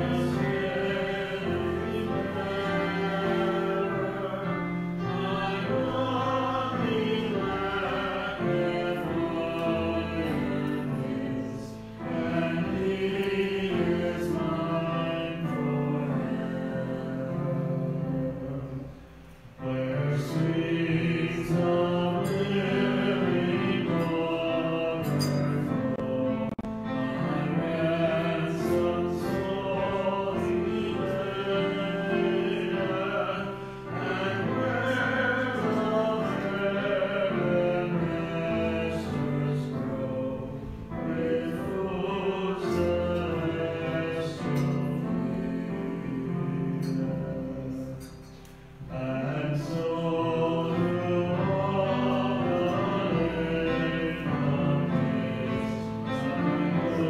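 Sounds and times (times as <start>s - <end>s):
hymn being sung: 0.0s - 57.0s.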